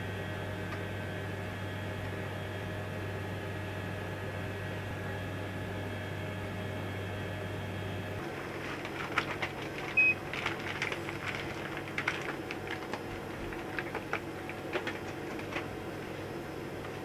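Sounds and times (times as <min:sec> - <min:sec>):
cabin fans humming: 0:00.0 - 0:17.0.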